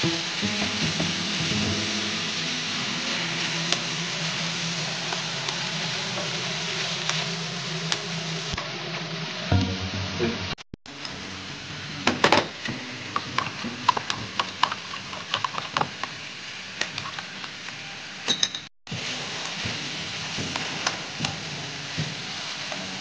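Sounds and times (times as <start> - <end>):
food sizzling in a frying pan: 0.0 - 10.0, 10.9 - 23.0.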